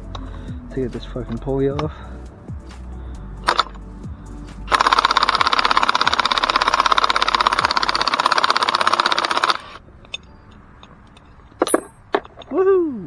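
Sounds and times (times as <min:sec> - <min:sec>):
impact wrench hammering: 0:00.0 - 0:12.5.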